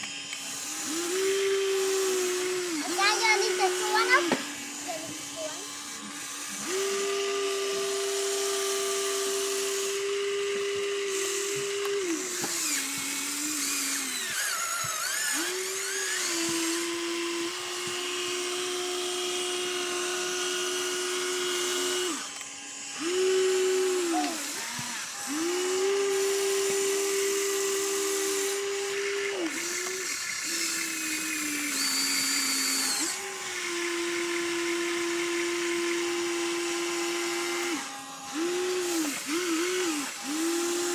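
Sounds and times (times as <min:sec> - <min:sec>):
small electric motor whining: 0:00.0 - 0:40.9.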